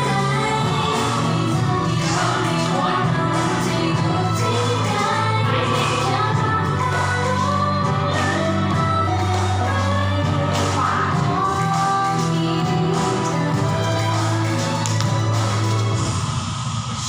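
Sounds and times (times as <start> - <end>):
pop song with singing: 0.0 - 17.0.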